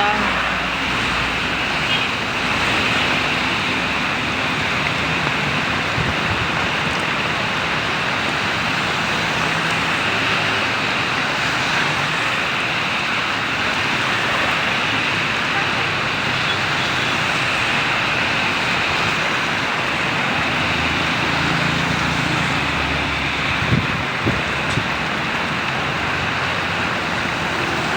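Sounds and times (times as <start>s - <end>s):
heavy rain hissing: 0.0s - 27.9s
road traffic: 0.0s - 27.9s.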